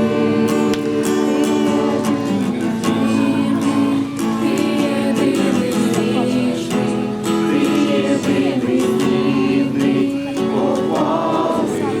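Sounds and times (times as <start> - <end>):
acoustic guitar strumming: 0.0 - 12.0
group of people singing: 0.0 - 12.0.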